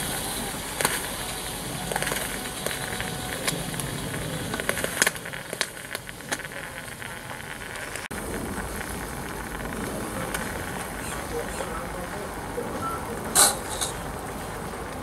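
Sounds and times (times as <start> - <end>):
sharp clicks and spits: 0.0 - 14.1
steam hissing: 0.0 - 15.0.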